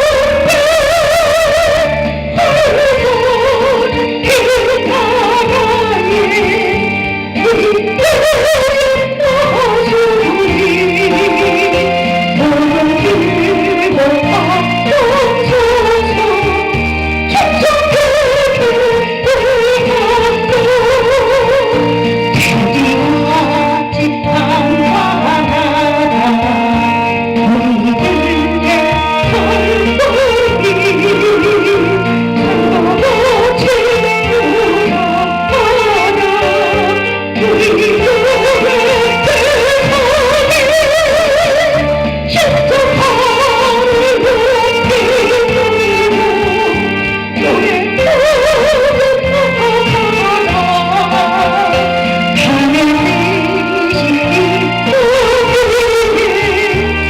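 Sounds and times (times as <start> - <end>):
instrumental accompaniment: 0.0 - 57.0
person singing a hymn: 0.0 - 57.0.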